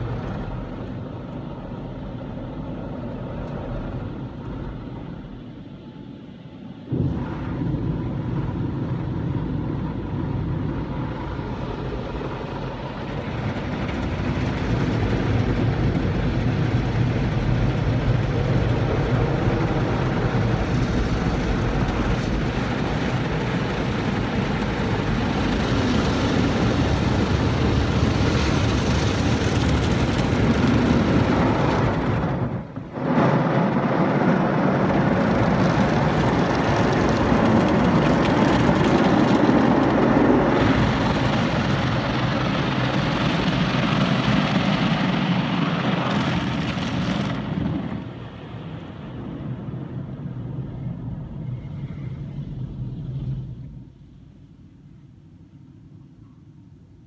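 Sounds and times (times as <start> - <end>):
water jets drumming on car: 0.0 - 5.7, 6.9 - 49.6.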